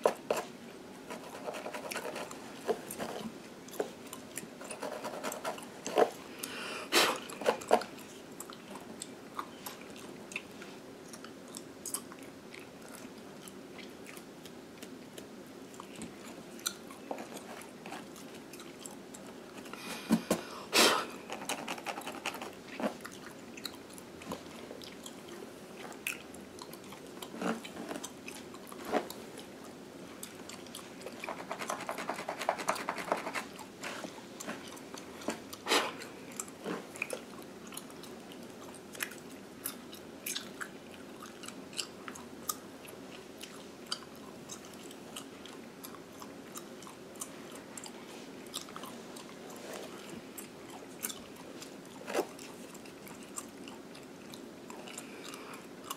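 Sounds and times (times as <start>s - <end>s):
gum chewing with wet smacks: 1.1s - 6.5s, 7.2s - 19.7s, 21.2s - 55.9s.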